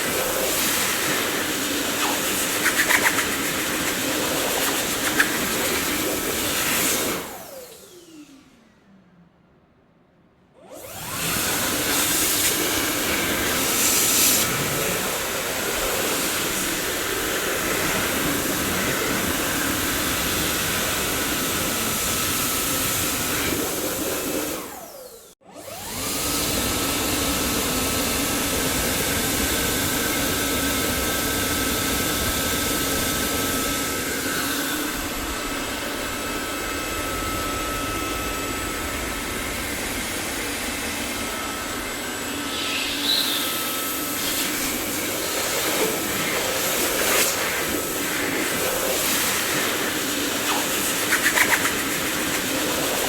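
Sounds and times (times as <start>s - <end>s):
vacuum cleaner running: 0.0s - 8.9s, 10.6s - 53.0s.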